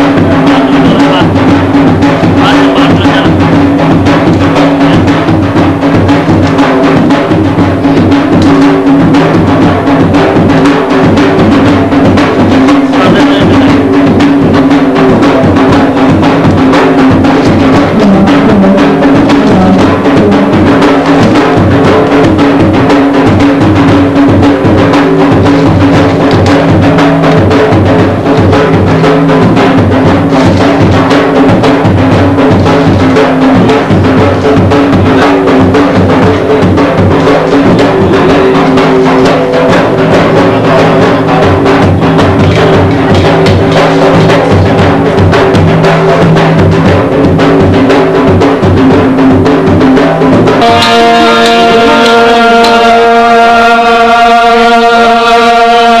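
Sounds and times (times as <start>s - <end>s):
steady held tones: 0.0s - 47.3s, 49.6s - 56.0s
loud rapid drumming: 0.0s - 56.0s.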